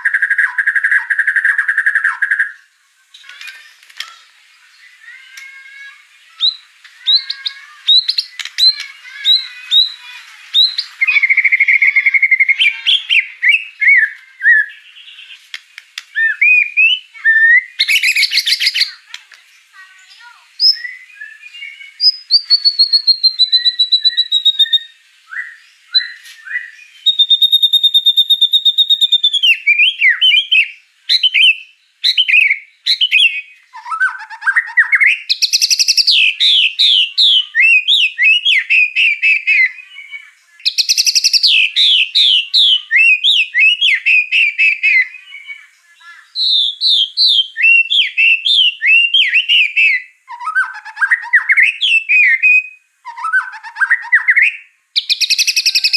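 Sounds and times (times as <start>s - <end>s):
songbird singing varied whistles: 0.0s - 3.3s, 4.6s - 15.4s, 16.0s - 19.0s, 20.0s - 55.9s.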